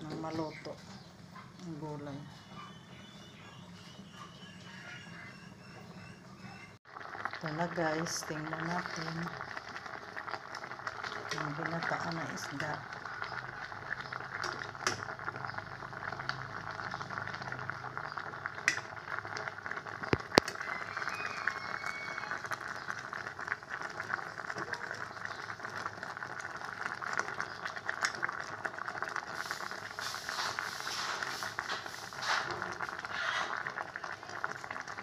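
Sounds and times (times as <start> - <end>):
pot simmering and bubbling: 0.0 - 35.0
utensil stirring in pot: 7.0 - 35.0.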